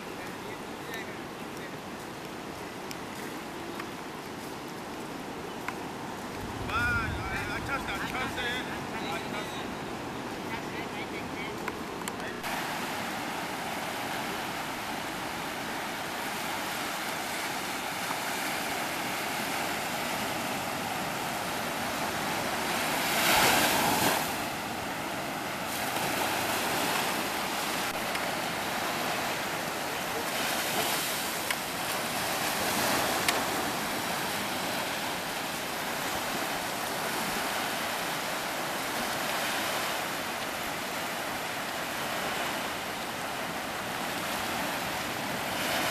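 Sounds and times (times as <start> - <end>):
sea surf washing onto beach: 0.0 - 45.9.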